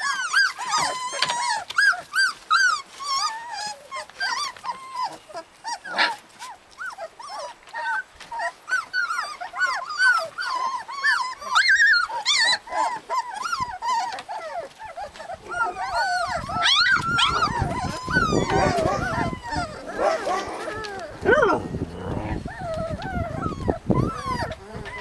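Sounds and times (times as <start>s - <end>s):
puppies whining and squealing: 0.0s - 25.0s.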